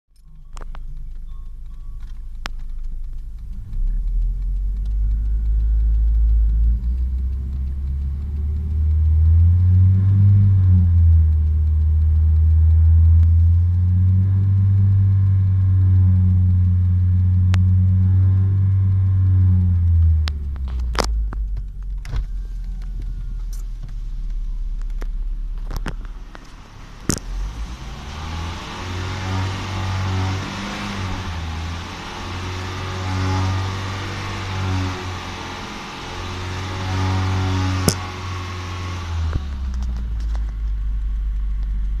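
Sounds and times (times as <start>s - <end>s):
sharp clicks: 0.1s - 42.0s
car engine revving: 0.2s - 42.0s.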